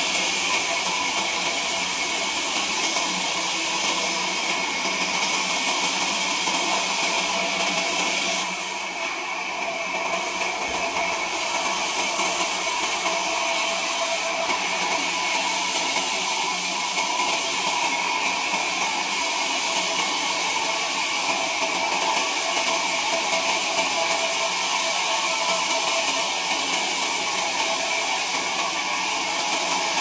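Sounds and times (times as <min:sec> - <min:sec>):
sawmill machinery whirring: 0:00.0 - 0:30.0.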